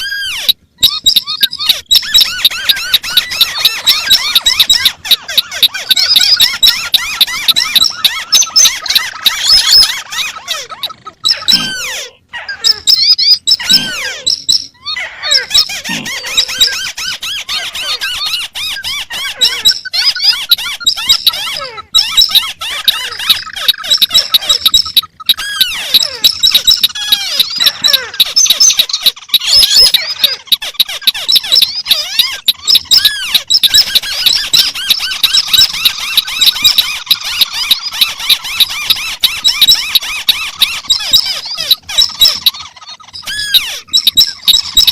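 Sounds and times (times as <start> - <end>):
bird squeaky chirps and trills: 0.0 - 44.9.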